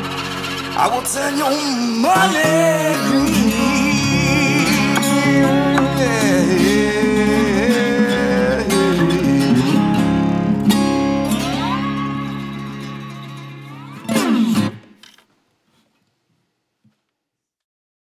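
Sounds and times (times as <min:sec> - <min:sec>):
slide guitar playing blues: 0:00.0 - 0:15.0.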